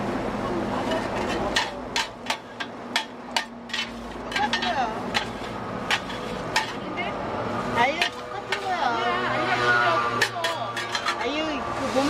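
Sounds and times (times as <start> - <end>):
metal scrapers clinking on griddle: 0.8 - 7.0, 7.8 - 11.6.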